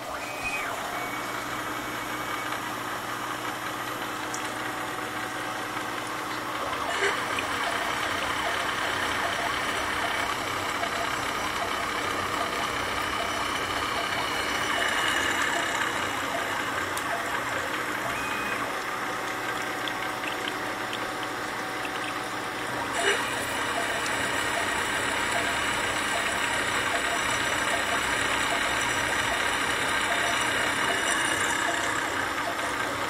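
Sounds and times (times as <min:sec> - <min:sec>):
milling machine cutting metal: 0:00.0 - 0:33.0.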